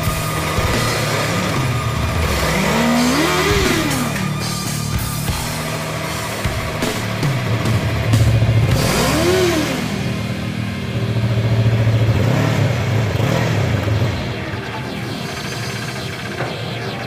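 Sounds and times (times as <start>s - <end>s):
motorcycle engine idling: 0.0s - 16.6s
engine throttle blips: 0.0s - 17.0s.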